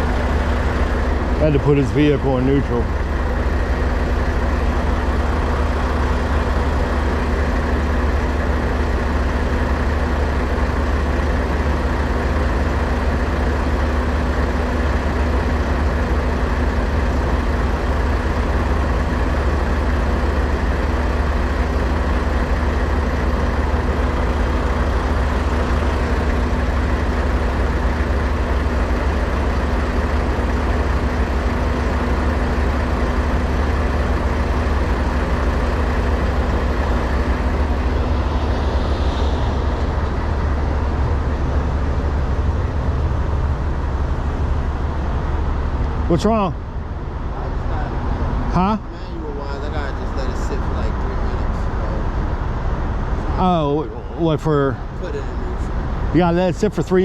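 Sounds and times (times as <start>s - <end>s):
truck diesel engine idling: 0.0s - 57.0s.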